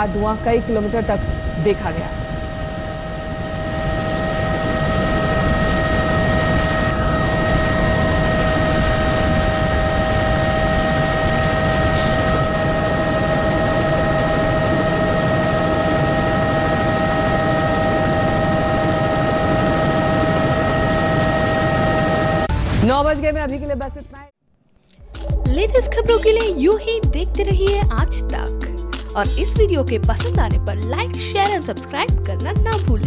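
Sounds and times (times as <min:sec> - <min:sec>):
helicopter engine and rotor: 0:00.0 - 0:22.5, 0:25.2 - 0:33.0.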